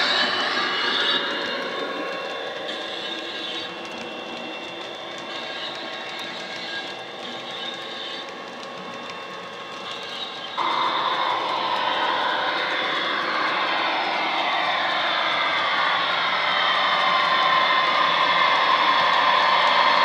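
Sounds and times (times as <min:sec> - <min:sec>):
model train engine sound: 0:00.0 - 0:20.0
wheels rolling on track: 0:00.0 - 0:20.0.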